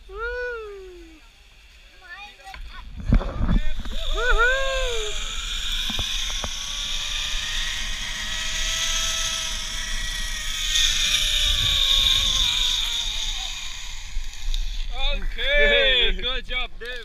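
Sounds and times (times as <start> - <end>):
zipline pulleys whirring whine: 0.0 - 16.1.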